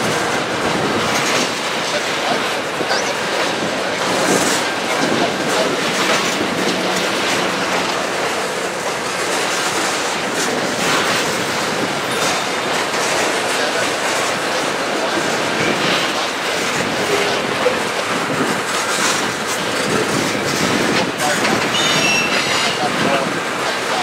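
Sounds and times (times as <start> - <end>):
clickety-clack over rail joints: 0.0 - 24.0
steel wheels rushing on rail: 0.0 - 24.0.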